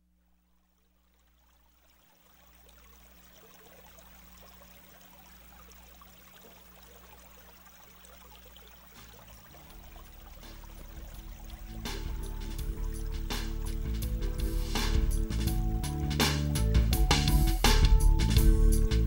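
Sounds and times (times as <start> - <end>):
faint low hum: 0.0 - 19.0
water trickling and bubbling: 0.4 - 16.9.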